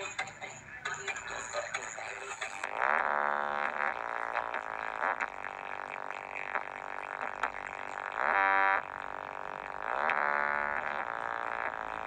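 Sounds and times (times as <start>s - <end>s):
loud buzzy amplified music: 0.9s - 12.0s.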